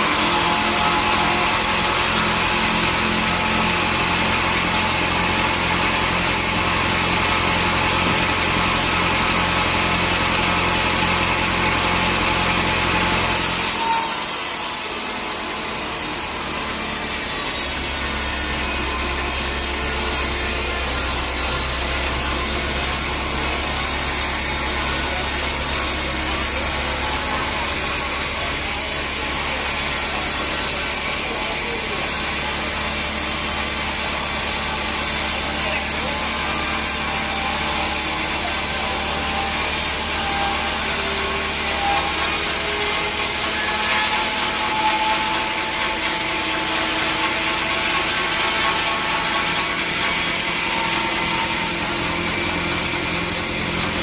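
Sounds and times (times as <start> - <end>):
saw blade rasping through wood: 0.0 - 54.0.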